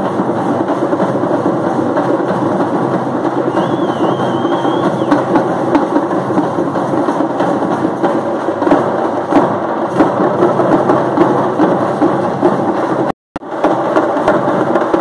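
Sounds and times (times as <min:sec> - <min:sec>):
frame drums beaten fast: 0:00.0 - 0:15.0.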